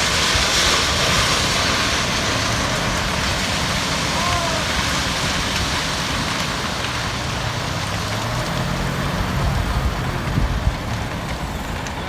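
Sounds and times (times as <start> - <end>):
constant rushing noise: 0.0 - 12.0
truck engine under load: 0.0 - 12.0.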